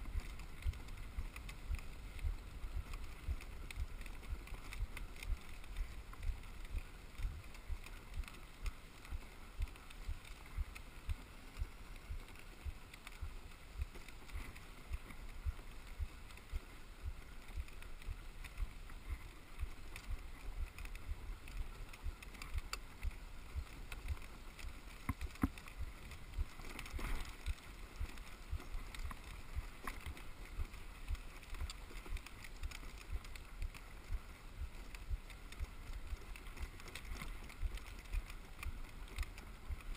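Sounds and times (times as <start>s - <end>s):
sled runners hissing over snow: 0.0s - 39.9s.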